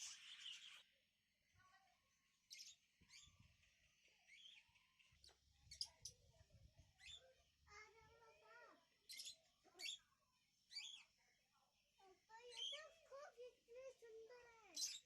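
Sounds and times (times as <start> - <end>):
faint bird chirping: 0.0 - 1.0, 1.6 - 15.0.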